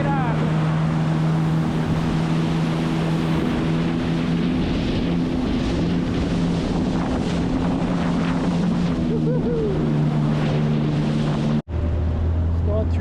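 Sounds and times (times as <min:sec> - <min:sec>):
watercraft engine running: 0:00.0 - 0:13.0
wind and water noise: 0:00.0 - 0:13.0.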